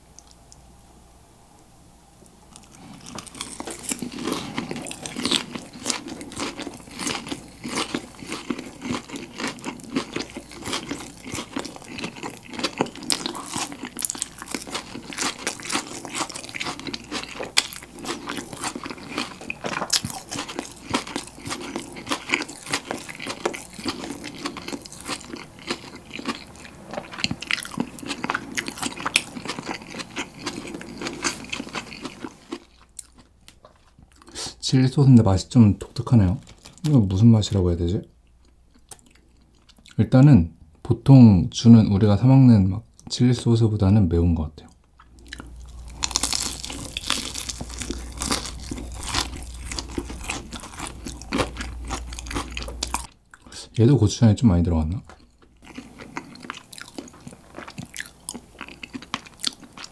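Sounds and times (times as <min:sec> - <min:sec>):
chewing crispy fried chicken: 0:02.5 - 0:35.0, 0:35.8 - 0:37.2, 0:38.2 - 0:40.1, 0:45.0 - 0:53.6, 0:54.9 - 0:59.9.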